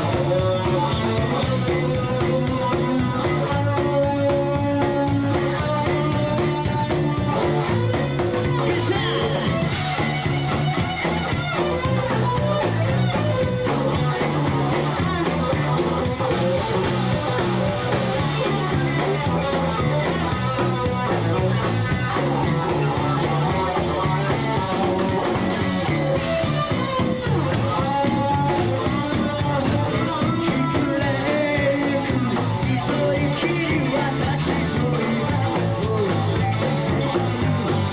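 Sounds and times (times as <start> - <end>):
rock band playing live: 0.0 - 37.9.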